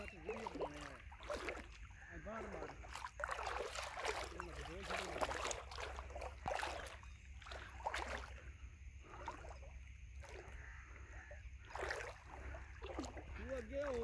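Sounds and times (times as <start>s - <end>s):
splashes: 0.0s - 14.0s
water lapping against boat hull: 0.0s - 14.0s.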